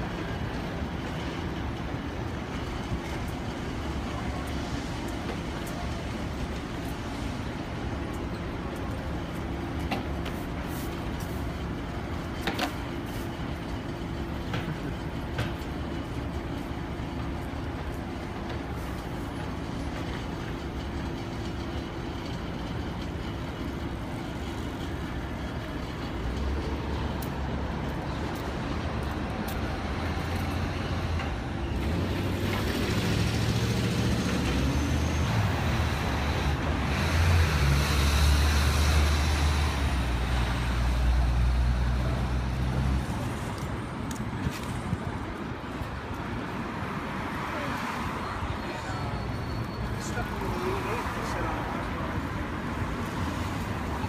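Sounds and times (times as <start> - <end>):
heavy traffic rumble: 0.0 - 54.0
traffic engine hum: 0.0 - 54.0.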